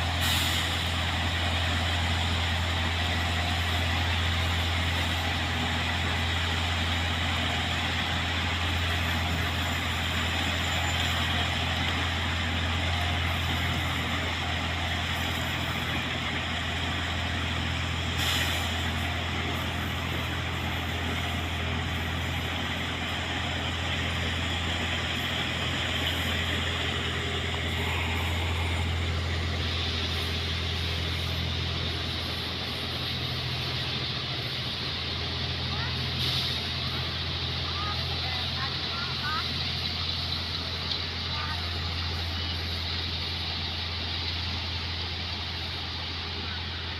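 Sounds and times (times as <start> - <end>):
rushing noise: 0.0 - 37.8
railway engine humming: 0.0 - 46.9.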